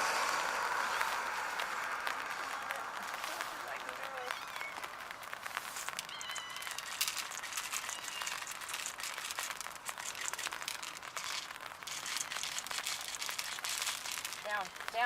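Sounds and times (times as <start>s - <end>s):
rain pattering on an umbrella: 0.0s - 15.0s.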